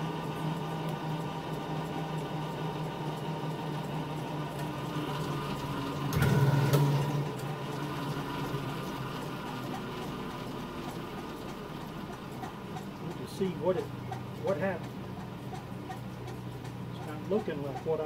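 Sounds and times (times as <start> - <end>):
spinning platter humming: 0.0 - 18.0.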